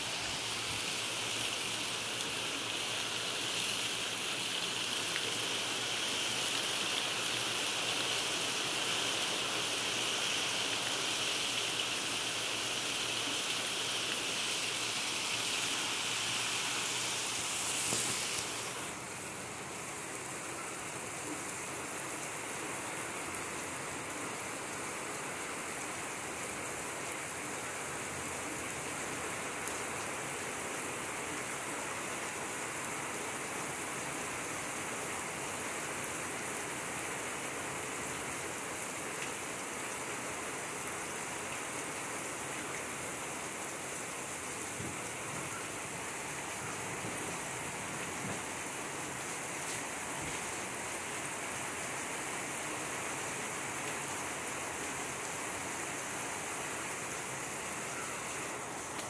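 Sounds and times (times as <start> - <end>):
heavy rain on ground: 0.0 - 59.0.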